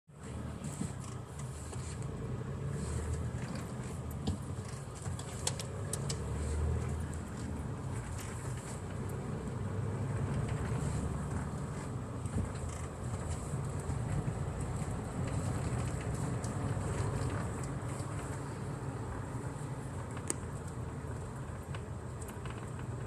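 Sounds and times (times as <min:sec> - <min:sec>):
engine and road noise rumble: 0:00.1 - 0:23.0.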